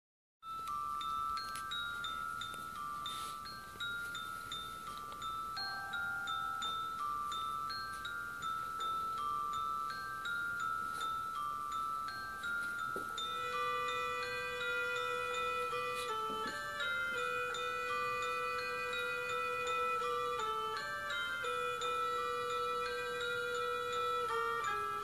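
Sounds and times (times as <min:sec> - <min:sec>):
bell-like chiming melody: 0:00.4 - 0:25.0.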